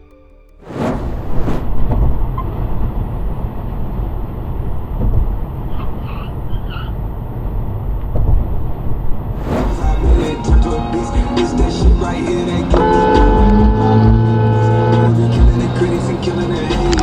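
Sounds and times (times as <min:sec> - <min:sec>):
vehicle road noise: 0:00.6 - 0:17.0.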